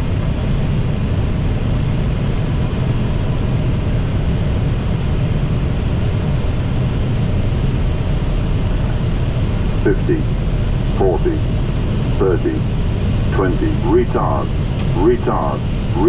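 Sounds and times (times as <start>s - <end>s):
aircraft engine noise: 0.0s - 16.0s.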